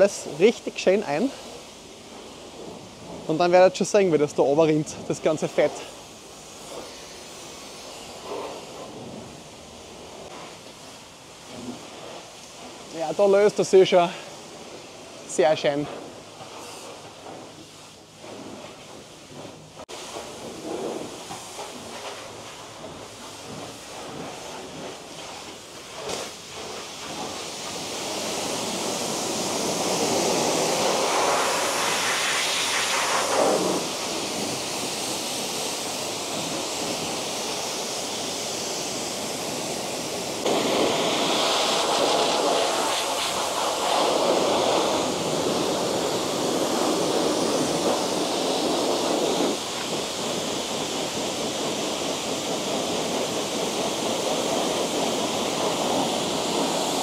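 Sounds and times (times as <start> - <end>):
pressure washer spraying metal: 0.0 - 57.0.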